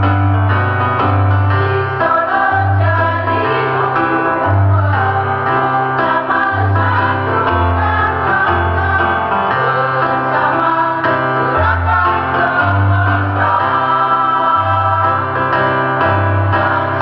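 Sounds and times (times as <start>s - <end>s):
women's choir singing: 1.6s - 17.0s.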